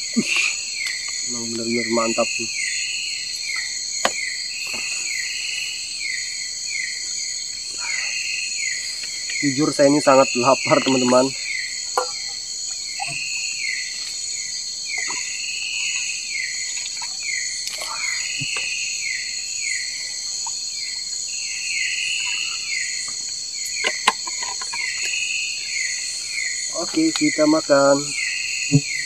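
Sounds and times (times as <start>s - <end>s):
crickets and insects droning: 0.0s - 29.0s
falling insect chirp: 0.0s - 29.0s.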